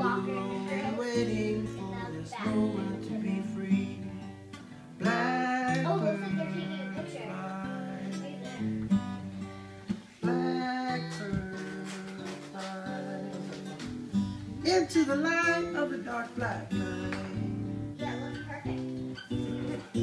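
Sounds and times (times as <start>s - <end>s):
person singing: 0.0s - 4.1s, 5.0s - 8.8s, 10.2s - 20.0s
acoustic guitar playing: 0.0s - 20.0s.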